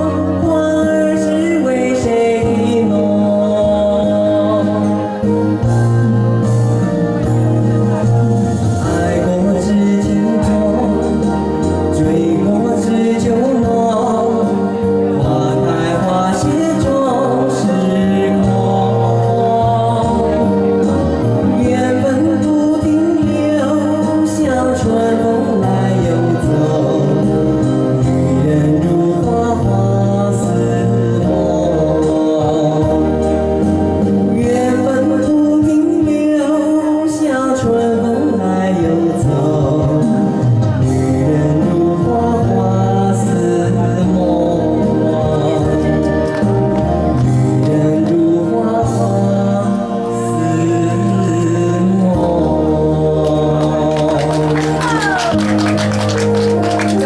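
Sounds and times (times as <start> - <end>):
karaoke backing track: 0.0 - 57.0
man singing into a microphone: 0.0 - 57.0.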